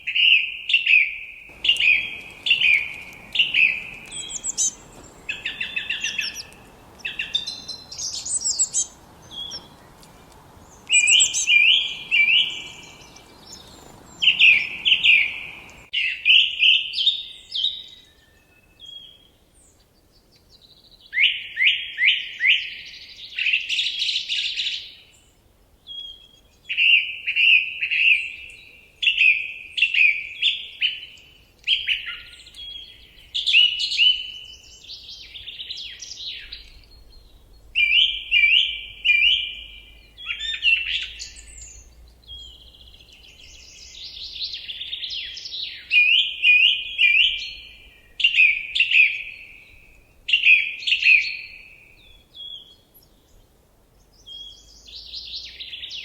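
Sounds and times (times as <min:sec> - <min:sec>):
songbirds chirping: 0:00.0 - 0:56.0
faint low hiss: 0:01.5 - 0:15.9, 0:22.9 - 0:56.0.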